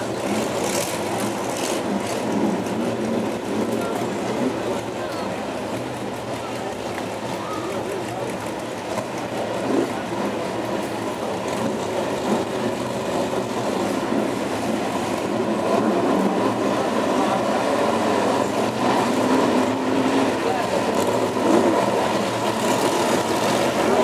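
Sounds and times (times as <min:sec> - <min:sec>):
race car engines rumbling: 0:00.0 - 0:24.0.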